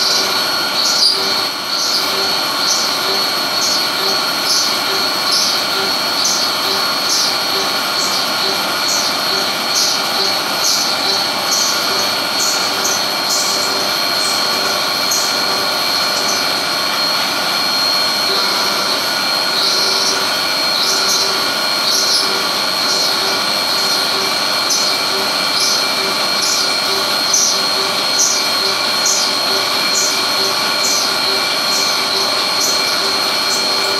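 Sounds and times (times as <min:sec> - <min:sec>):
milling machine whine: 0:00.0 - 0:33.9.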